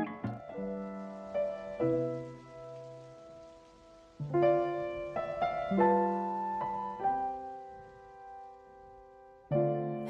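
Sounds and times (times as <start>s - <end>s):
soft music with slow held notes: 0.0s - 10.0s.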